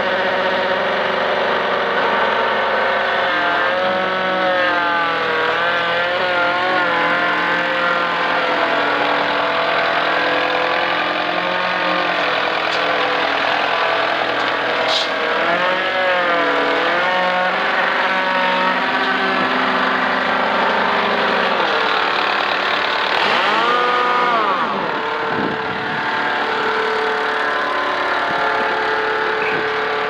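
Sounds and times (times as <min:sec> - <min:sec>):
skid steer engine revving: 0:00.0 - 0:30.0.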